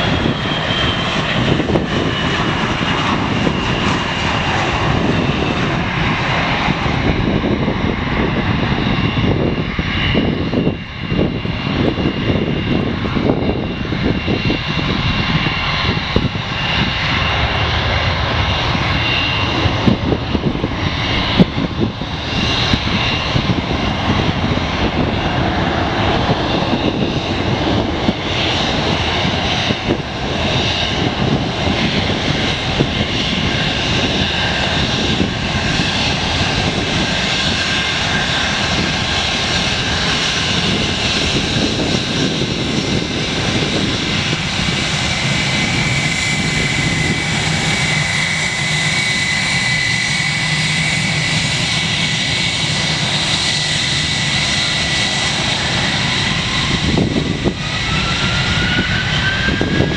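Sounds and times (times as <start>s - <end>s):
high jet engine whine: 0.0s - 59.9s
jet engine rush: 0.0s - 59.9s.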